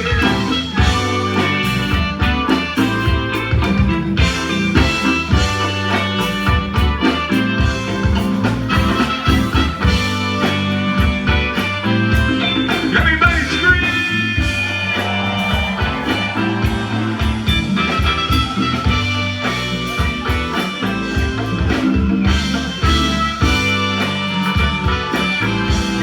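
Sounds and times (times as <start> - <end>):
electric guitar with bent notes: 0.0 - 26.0
live rock band playing: 0.0 - 26.0.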